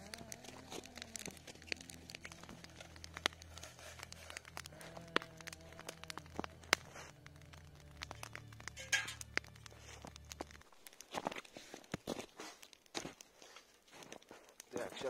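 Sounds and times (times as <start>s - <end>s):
campfire crackling and popping: 0.0s - 15.0s
plastic bags crinkling: 0.0s - 15.0s.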